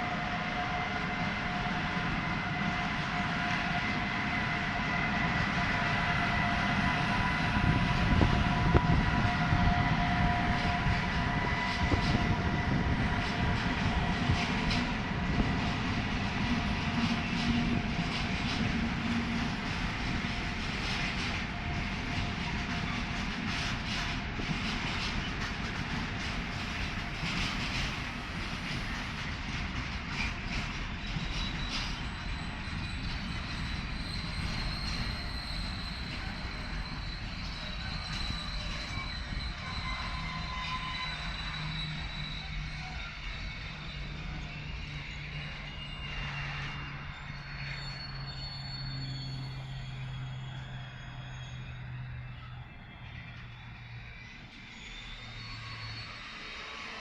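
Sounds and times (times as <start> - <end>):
electric locomotive whine: 0.0 - 57.0
freight train rumble: 0.0 - 57.0.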